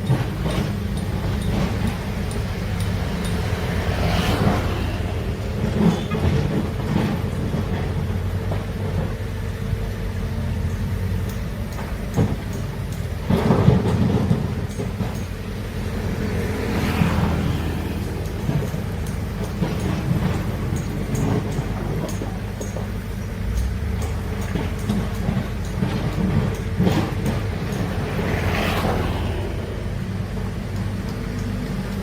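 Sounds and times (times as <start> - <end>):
diesel machinery engine drone: 0.0 - 32.0.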